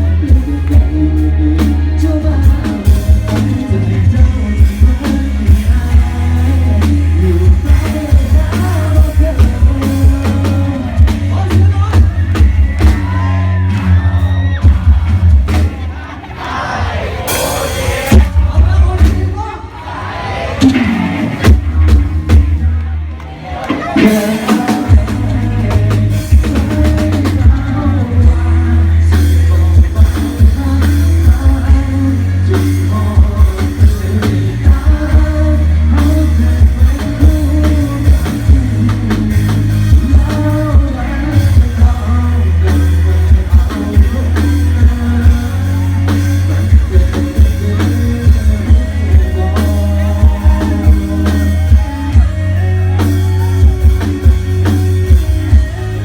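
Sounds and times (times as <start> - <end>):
person singing: 0.0 - 15.9, 23.5 - 56.0
drum kit beat: 0.0 - 19.6, 20.6 - 22.8, 23.7 - 56.0
heavy bass: 0.0 - 56.0.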